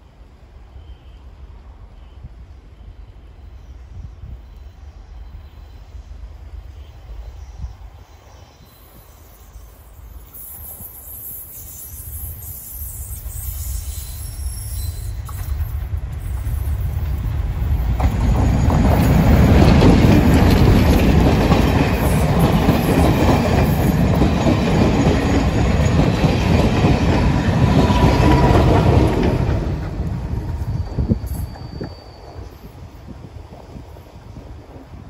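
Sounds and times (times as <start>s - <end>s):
diesel locomotive engine: 0.0s - 35.0s
train wheels on rails: 0.0s - 35.0s.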